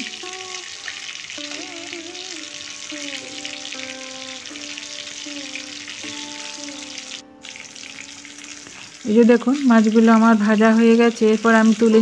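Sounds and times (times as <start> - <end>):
fish sizzling in oil: 0.0 - 12.0
simple background melody: 0.0 - 12.0.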